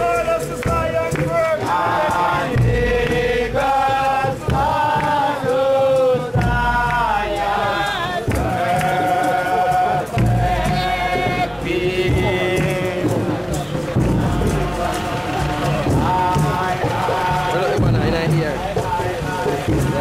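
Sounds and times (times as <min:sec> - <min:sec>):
people chanting in unison: 0:00.0 - 0:20.0.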